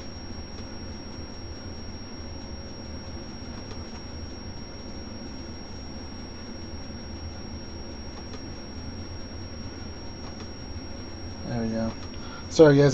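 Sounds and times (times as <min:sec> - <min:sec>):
high-pitched whine: 0:00.0 - 0:12.9
low hum and hiss: 0:00.0 - 0:12.9.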